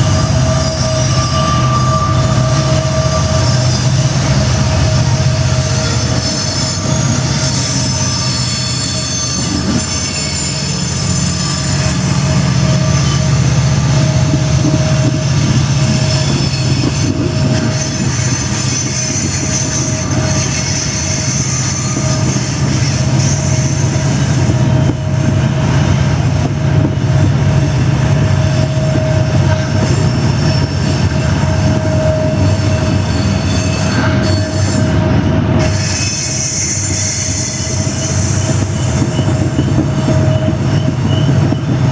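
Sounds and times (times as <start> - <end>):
locomotive turbo howl: 0.0 - 41.9
steel wheels squealing: 0.0 - 41.9.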